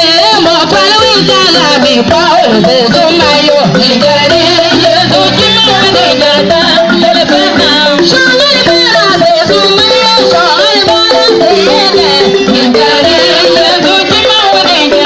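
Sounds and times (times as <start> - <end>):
person singing: 0.0 - 15.0
wooden xylophone melody: 0.0 - 15.0.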